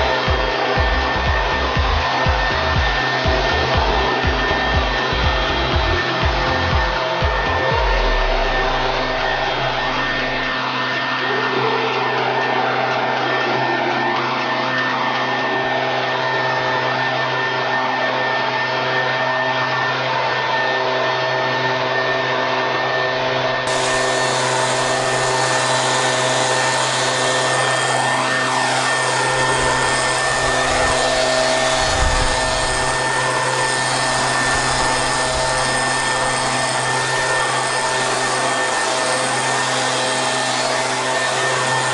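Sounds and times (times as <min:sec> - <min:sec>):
leaf blower running: 0:00.0 - 0:41.9.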